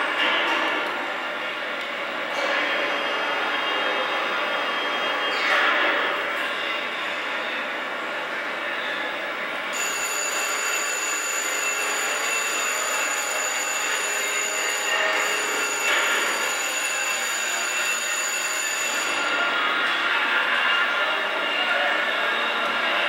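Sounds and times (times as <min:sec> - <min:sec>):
crowded room din: 0:00.0 - 0:23.0.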